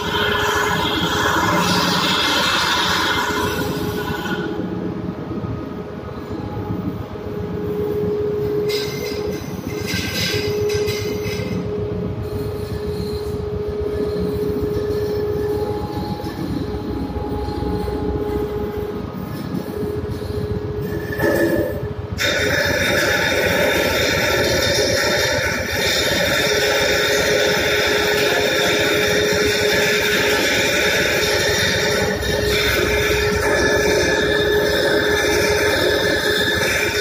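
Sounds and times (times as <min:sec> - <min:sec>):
machinery hum and rumble: 0:00.0 - 0:37.0
machinery whining tone: 0:00.0 - 0:37.0.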